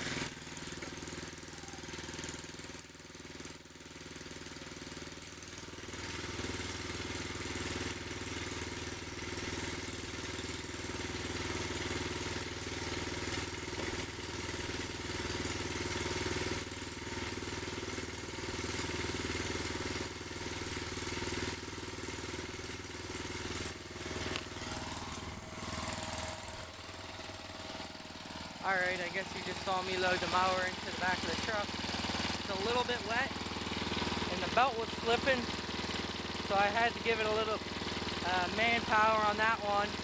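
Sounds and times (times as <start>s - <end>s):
mower engine running: 0.0s - 40.0s.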